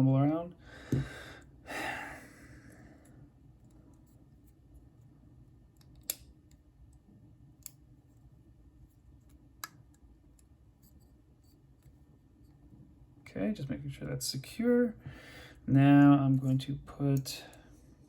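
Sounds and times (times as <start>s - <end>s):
quiet room hum: 0.0s - 18.0s.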